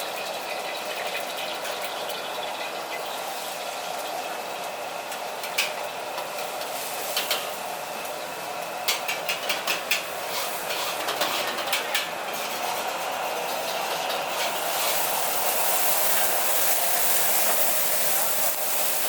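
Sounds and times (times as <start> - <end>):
vegetables sizzling: 0.1 - 19.0.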